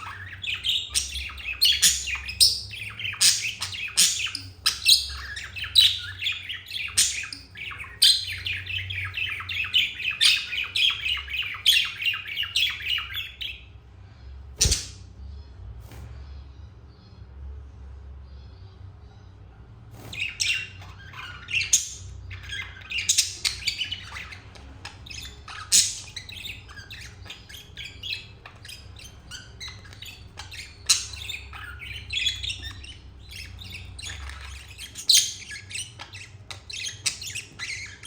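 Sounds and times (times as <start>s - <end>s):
budgerigars chattering and warbling: 0.0s - 13.6s, 14.6s - 15.0s, 20.0s - 38.0s.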